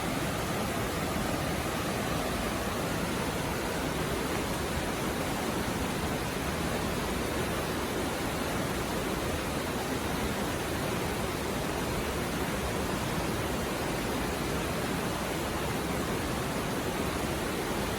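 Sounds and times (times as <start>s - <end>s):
river flowing over stones: 0.0s - 17.9s.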